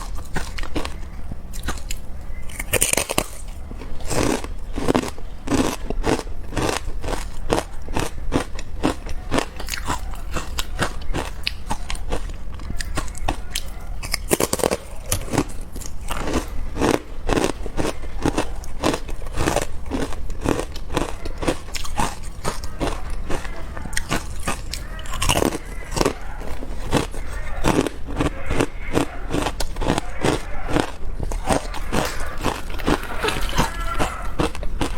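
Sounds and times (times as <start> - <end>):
ice being crunched and chewed: 0.0 - 34.9.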